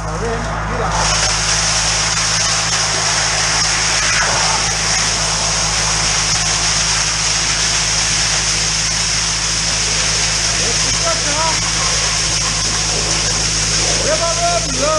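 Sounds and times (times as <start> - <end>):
engine running steadily: 0.0 - 14.9
water flowing: 0.0 - 14.9
loud hiss of water jet: 0.9 - 14.9.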